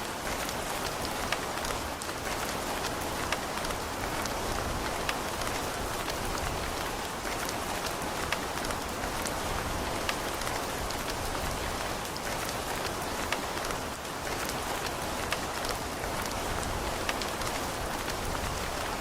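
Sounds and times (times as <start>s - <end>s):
rain on a building: 0.0s - 19.0s.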